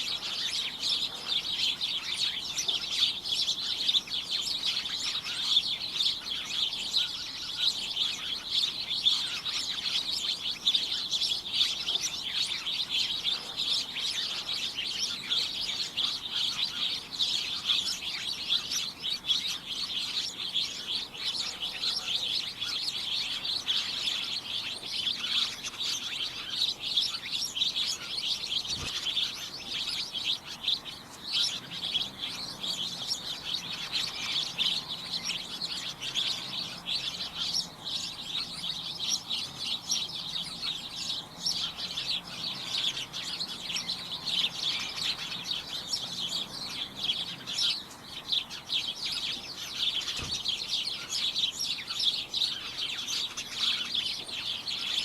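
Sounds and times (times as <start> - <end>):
flock of small birds chirping: 0.0 - 55.0.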